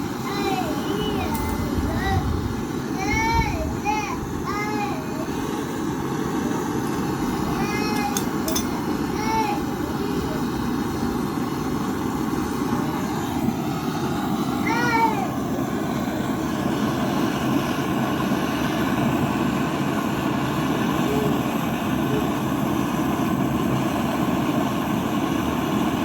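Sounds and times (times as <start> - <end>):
low mechanical rumble: 0.0 - 22.5.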